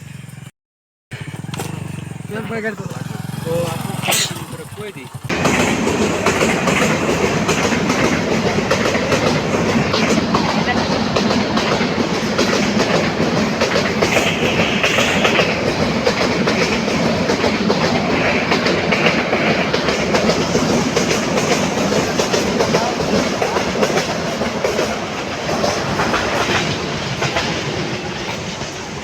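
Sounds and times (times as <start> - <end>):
loud clattering rumble: 1.1 - 29.0.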